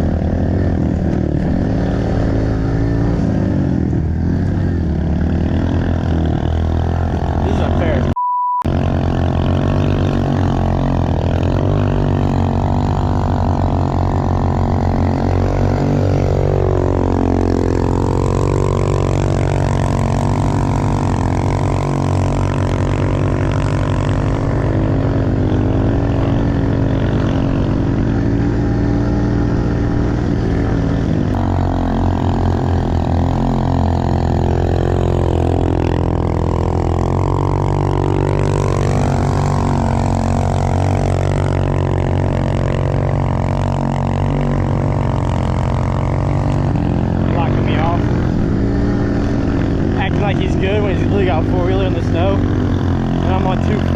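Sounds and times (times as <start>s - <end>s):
pit bike engine revving: 0.0s - 53.9s.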